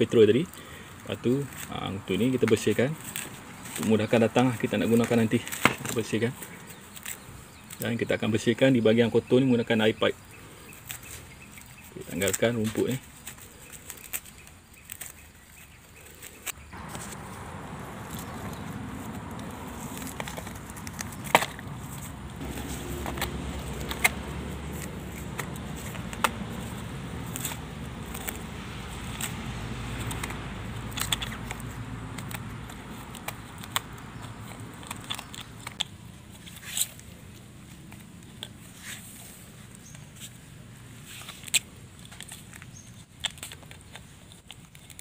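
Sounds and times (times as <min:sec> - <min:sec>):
grass tearing and snapping: 0:01.1 - 0:08.4, 0:10.7 - 0:40.4, 0:41.0 - 0:45.0.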